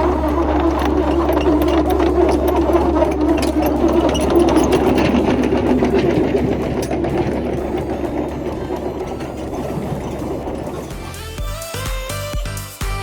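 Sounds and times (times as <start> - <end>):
backhoe diesel engine clattering: 0.0 - 12.3.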